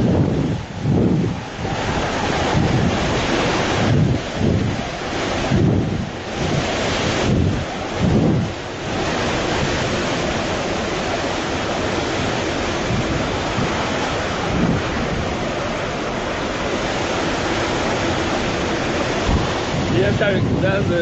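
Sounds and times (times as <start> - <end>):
rushing roar of wind: 0.0 - 21.0
surf: 0.0 - 21.0
wind buffeting the microphone: 0.0 - 21.0.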